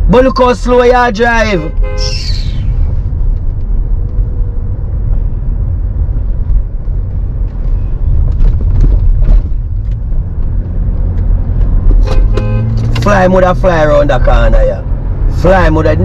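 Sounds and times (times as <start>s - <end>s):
car interior road and engine rumble: 0.0s - 16.0s.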